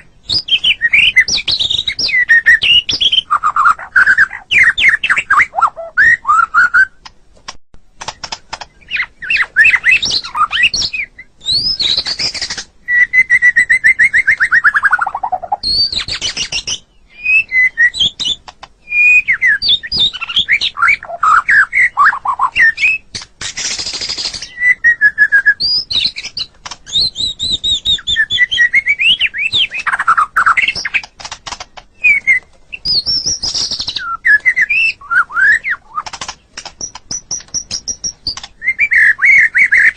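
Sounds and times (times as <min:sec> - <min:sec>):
bird singing whistles and chirps: 0:00.0 - 0:07.1, 0:08.7 - 0:31.1, 0:31.9 - 0:39.9.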